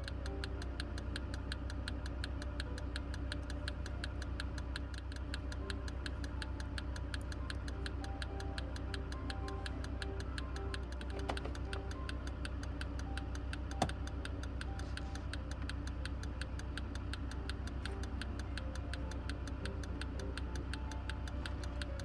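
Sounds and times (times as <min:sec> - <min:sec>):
light melody with bass and ticking beat: 0:00.0 - 0:22.0
sharp click: 0:00.0 - 0:22.0.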